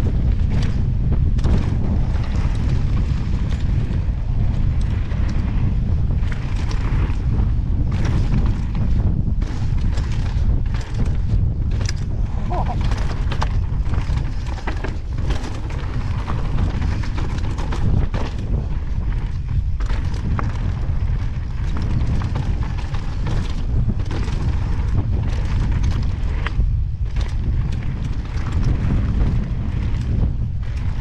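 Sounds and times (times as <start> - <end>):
stones and bike rattling: 0.0 - 31.0
wind buffeting microphone: 0.0 - 31.0
bike tyres crunching on rocks: 0.1 - 31.0.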